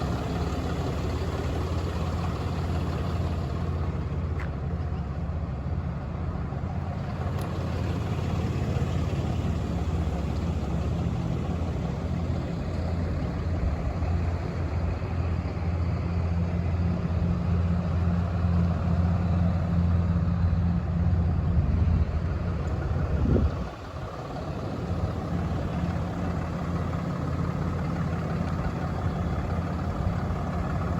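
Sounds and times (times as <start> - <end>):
diesel engine droning: 0.0 - 30.9.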